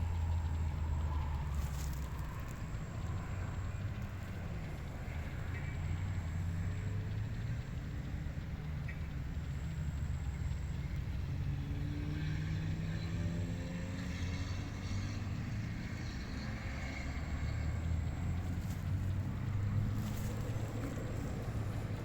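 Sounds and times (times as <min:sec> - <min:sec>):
distant engine hum: 0:00.0 - 0:22.0
wind: 0:00.0 - 0:22.0.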